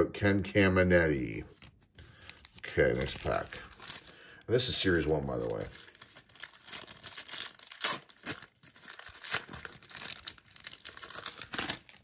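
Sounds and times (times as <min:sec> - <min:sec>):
wrapper tearing and crinkling: 0:02.2 - 0:12.0.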